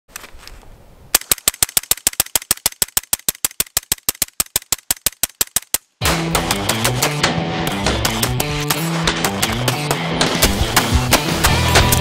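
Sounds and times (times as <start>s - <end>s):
rapid suppressed rifle shots: 1.2s - 12.0s.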